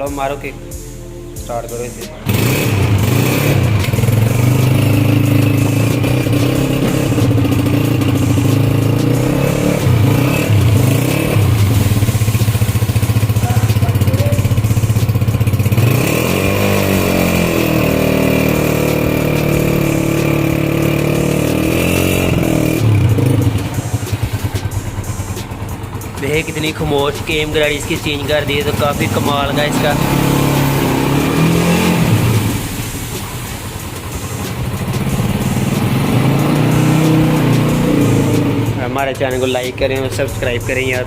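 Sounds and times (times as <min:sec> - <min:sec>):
engine revving: 0:02.0 - 0:41.0
motorcycle engine idling: 0:02.2 - 0:41.0.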